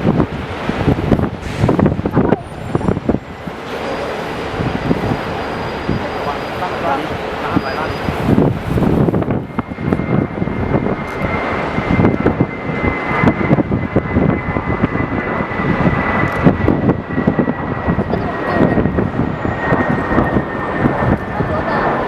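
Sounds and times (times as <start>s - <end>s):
high engine whine: 0.0s - 22.0s
jet engines roaring: 0.0s - 22.0s.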